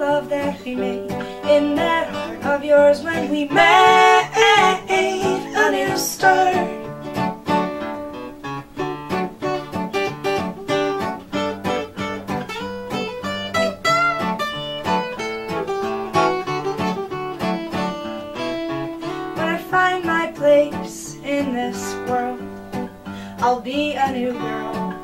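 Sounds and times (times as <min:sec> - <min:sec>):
acoustic guitar picking and strumming: 0:00.0 - 0:25.0.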